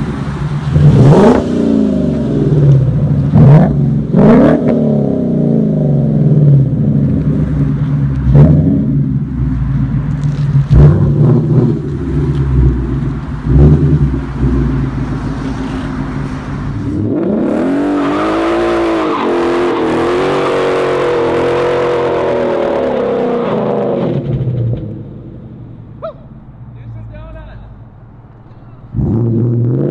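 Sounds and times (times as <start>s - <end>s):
car engine revving: 0.0s - 26.7s, 28.9s - 29.9s.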